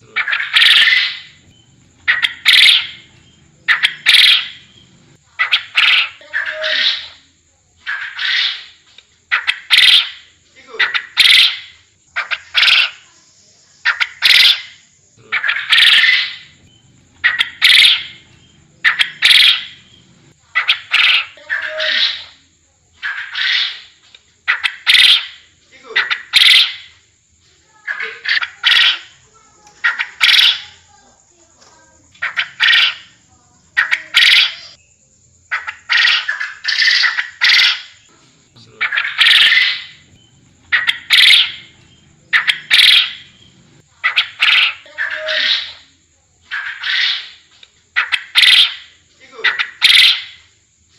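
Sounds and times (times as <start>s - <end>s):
quail calling: 0.0s - 13.1s, 13.8s - 22.4s, 23.0s - 27.0s, 27.8s - 31.0s, 32.1s - 34.8s, 35.5s - 50.5s.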